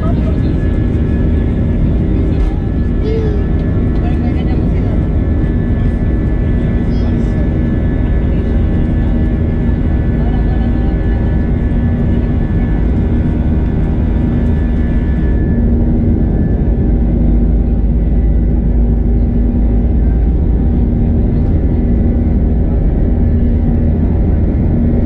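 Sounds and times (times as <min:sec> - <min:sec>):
jet engine and airflow rumble: 0:00.0 - 0:25.0.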